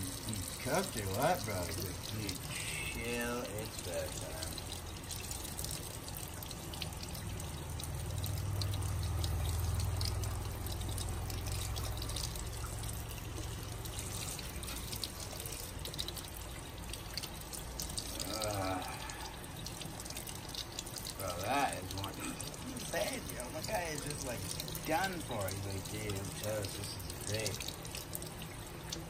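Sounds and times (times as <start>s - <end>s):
water dripping: 0.0s - 29.0s
water running from faucet: 0.0s - 29.0s.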